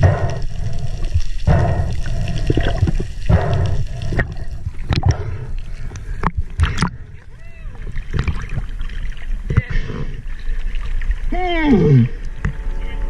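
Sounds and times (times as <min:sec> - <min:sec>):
water sloshing and bubbling: 0:00.0 - 0:13.0.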